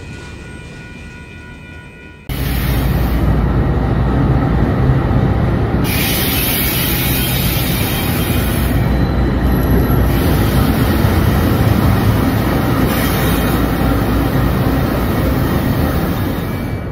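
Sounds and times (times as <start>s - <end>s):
diesel locomotives rumbling past: 0.0s - 16.9s.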